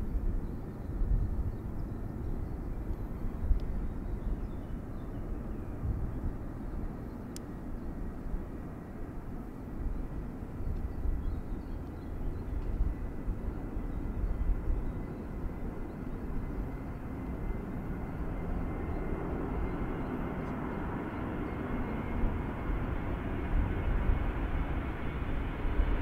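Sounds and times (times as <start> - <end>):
distant jet engines rumbling: 0.0 - 26.0
turbine whine: 0.0 - 26.0.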